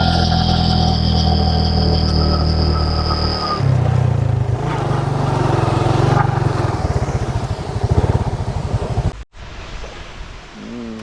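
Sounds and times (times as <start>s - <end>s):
engine running: 0.0s - 9.2s.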